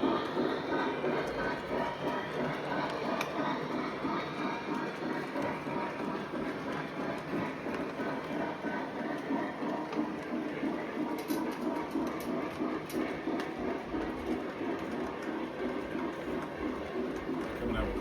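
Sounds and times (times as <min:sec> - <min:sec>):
model train rumbling: 0:00.0 - 0:18.0
wheels clicking over rails: 0:00.0 - 0:18.0.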